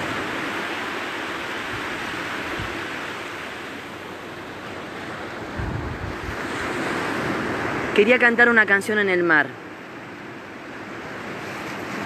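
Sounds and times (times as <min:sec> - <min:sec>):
waves washing up a beach: 0:00.0 - 0:12.0.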